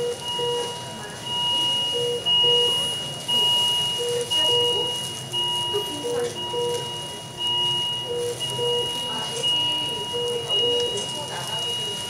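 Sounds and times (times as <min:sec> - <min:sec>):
high pulsing alarm tone: 0:00.0 - 0:12.0
short lower beeps: 0:00.0 - 0:12.0.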